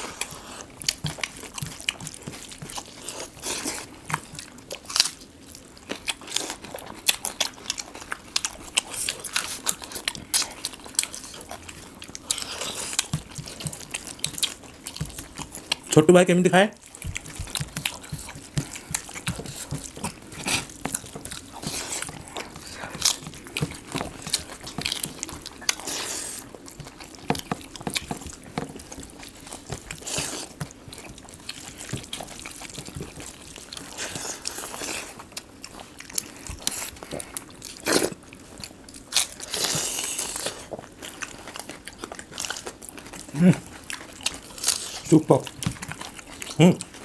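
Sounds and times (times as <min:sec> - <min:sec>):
people chewing and crunching food: 0:00.0 - 0:47.0.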